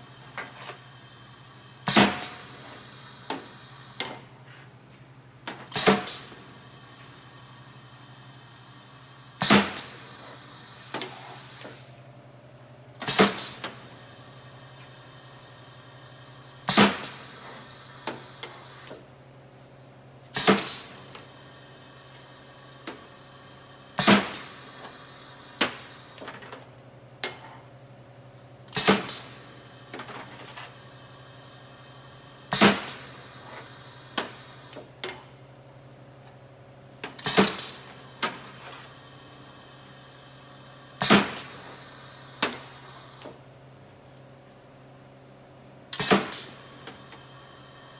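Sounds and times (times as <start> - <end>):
pneumatic filler clacking and hissing: 0.0 - 4.8, 5.4 - 12.0, 12.9 - 19.1, 20.3 - 27.6, 28.6 - 35.3, 37.0 - 43.5, 45.9 - 47.9.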